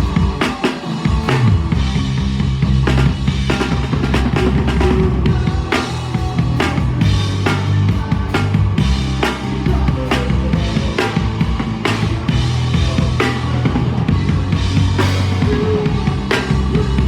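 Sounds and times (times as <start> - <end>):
drum kit steady beat: 0.0 - 17.0
rock band playing: 0.0 - 17.0.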